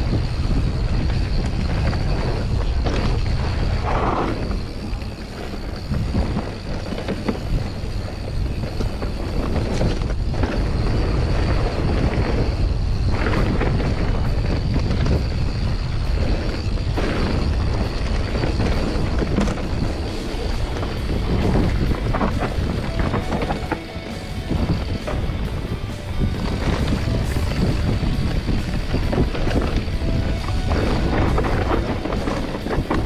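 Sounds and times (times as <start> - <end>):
bike clicks and rattles: 0.0 - 33.0
bike tyres on loose dirt: 0.0 - 33.0
wind rumble on microphone: 0.0 - 33.0.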